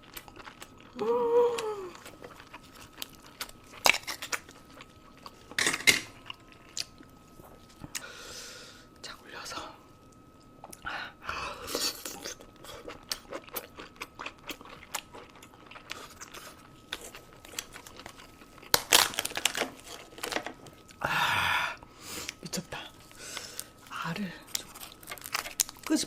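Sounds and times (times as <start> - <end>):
food crunching and crinkling: 0.0 - 8.1, 11.6 - 21.0, 21.8 - 26.0.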